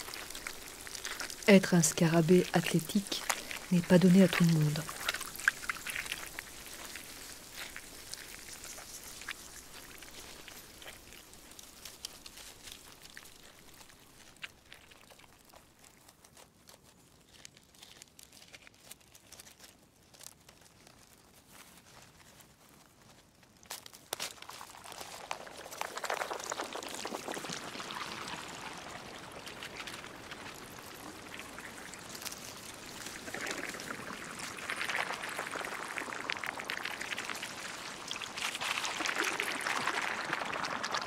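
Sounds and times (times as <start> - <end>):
small ticks and crackles: 0.0 - 1.6, 2.4 - 41.0.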